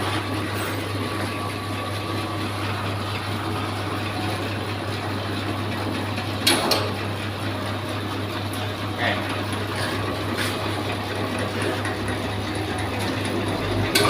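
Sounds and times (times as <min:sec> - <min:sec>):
machine motor humming: 0:00.0 - 0:14.0.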